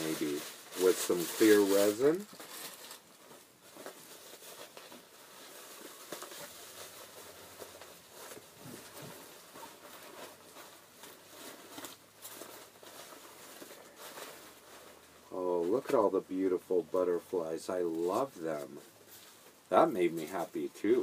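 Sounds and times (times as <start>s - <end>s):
paper packing rustling: 0.0s - 21.0s.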